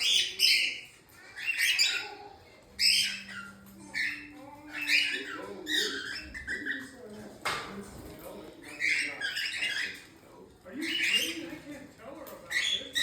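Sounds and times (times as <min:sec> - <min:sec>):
birds squawking: 0:00.0 - 0:07.4, 0:08.2 - 0:13.0.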